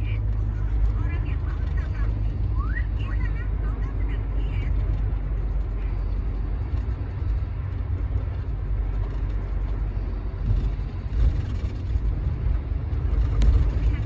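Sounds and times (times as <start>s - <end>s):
bus engine rumble: 0.0s - 14.0s
road noise: 0.0s - 14.0s.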